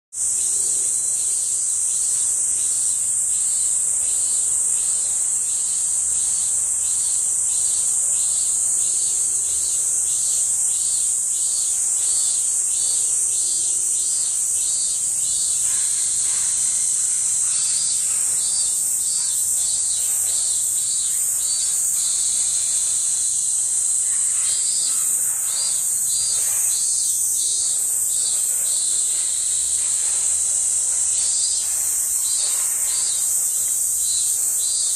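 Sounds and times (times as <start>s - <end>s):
insects droning: 0.2s - 34.9s
pulsing insect call: 0.2s - 34.9s.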